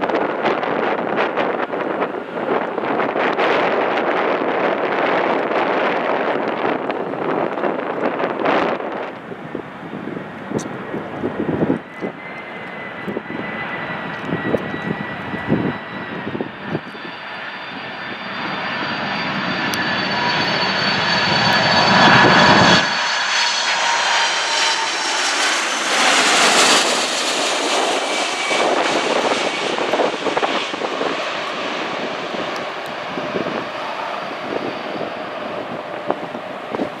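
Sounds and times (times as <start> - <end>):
jet airliner passing: 0.0 - 37.0
wind buffeting microphone: 0.0 - 37.0.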